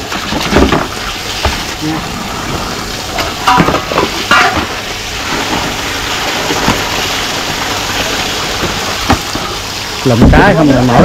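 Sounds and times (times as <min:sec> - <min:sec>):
short splashes and knocks: 0:00.0 - 0:02.0, 0:03.1 - 0:10.5
flowing water rushing: 0:00.0 - 0:11.0.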